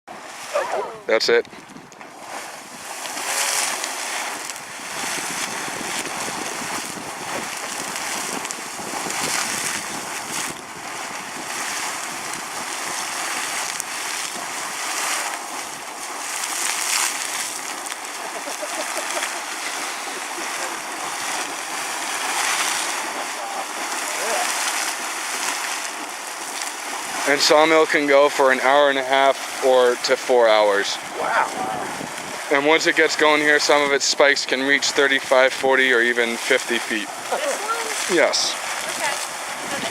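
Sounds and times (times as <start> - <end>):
geyser erupting with splashing water: 0.1 - 39.9.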